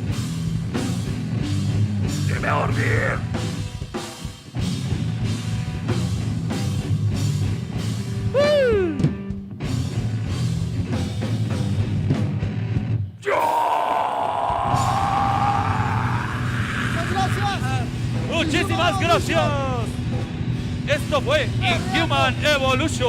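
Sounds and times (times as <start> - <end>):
heavy metal band playing: 0.0 - 23.0.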